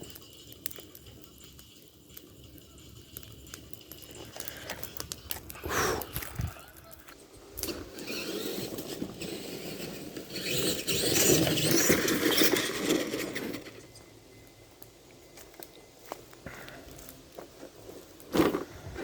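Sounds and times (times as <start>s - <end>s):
rc truck drivetrain and tyre noise: 0.0s - 19.0s.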